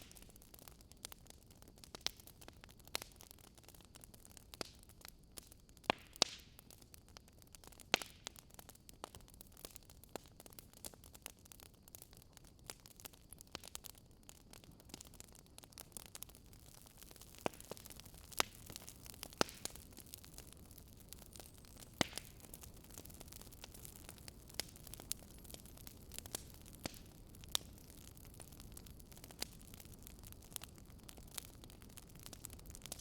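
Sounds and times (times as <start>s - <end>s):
faint steady hiss: 0.0s - 33.0s
firewood crackling and popping: 0.0s - 33.0s.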